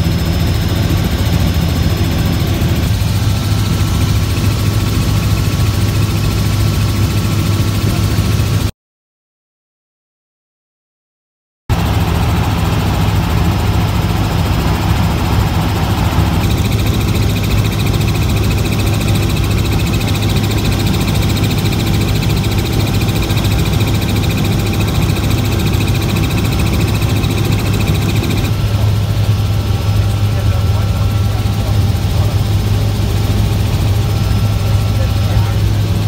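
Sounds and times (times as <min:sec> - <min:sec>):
helicopter drone from inside cabin: 0:00.0 - 0:08.7, 0:11.7 - 0:36.0.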